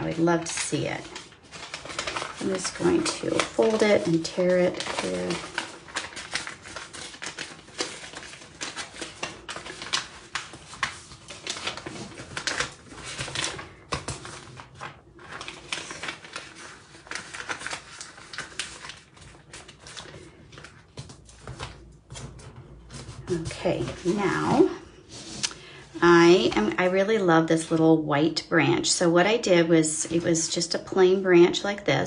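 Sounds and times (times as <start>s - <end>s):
paper crinkling and rustling: 0.0s - 27.9s, 29.6s - 31.2s.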